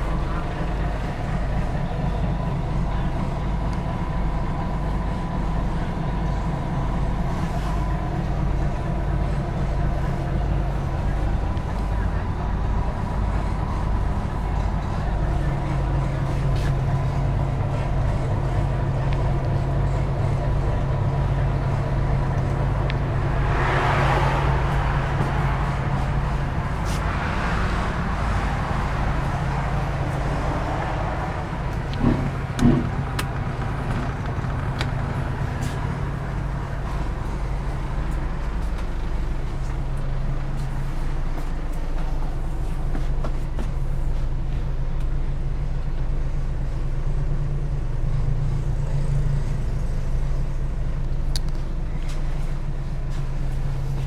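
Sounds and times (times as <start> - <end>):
bus engine humming: 0.0 - 54.0.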